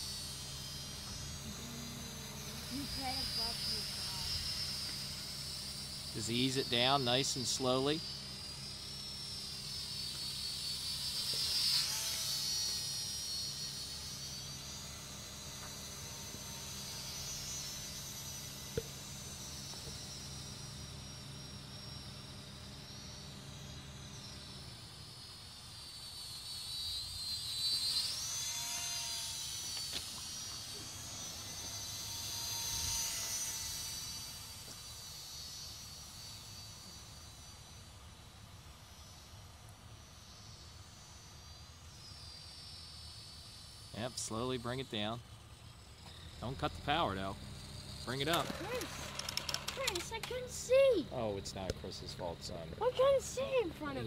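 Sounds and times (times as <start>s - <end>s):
model airplane motor buzzing: 0.0s - 54.0s.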